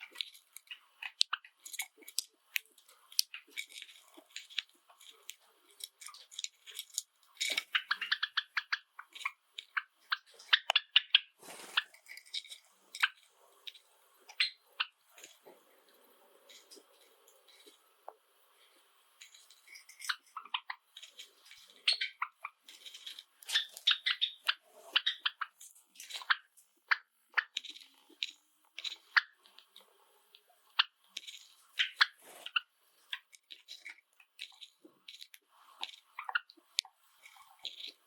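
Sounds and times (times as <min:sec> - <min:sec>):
sparrows chirping and clicking: 0:00.0 - 0:17.8, 0:18.6 - 0:38.0.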